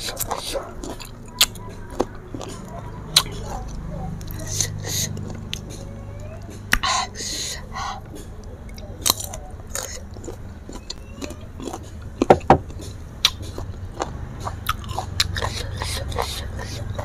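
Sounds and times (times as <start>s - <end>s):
chewing crisp fruit: 0.0s - 17.0s
mouth clicks: 0.1s - 17.0s.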